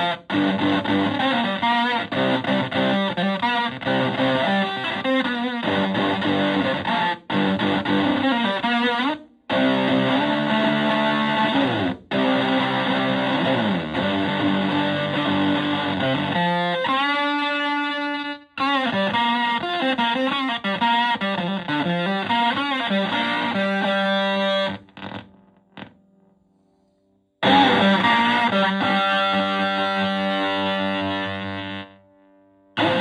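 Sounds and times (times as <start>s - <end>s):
fuzz-distorted electric guitar riffs: 0.0s - 26.3s, 27.4s - 33.0s.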